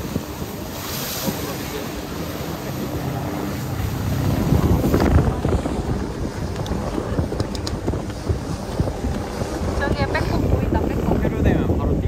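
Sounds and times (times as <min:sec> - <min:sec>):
rushing water: 0:00.0 - 0:12.0
wind buffeting the microphone: 0:00.0 - 0:12.0.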